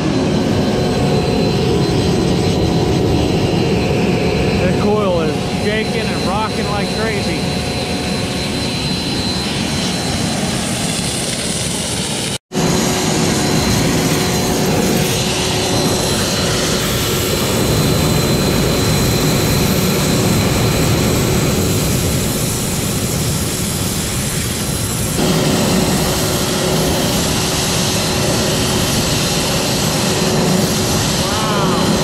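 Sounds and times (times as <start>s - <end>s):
burner firing: 0.0s - 32.0s
steam jet roaring: 0.0s - 32.0s.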